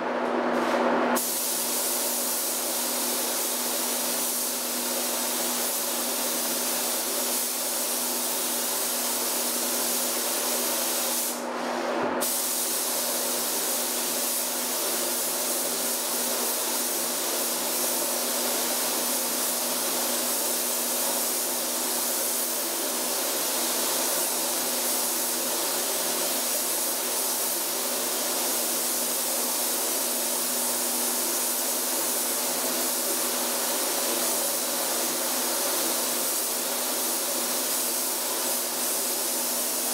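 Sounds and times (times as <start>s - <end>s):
paint spray gun hissing: 1.2s - 11.4s, 12.2s - 39.9s.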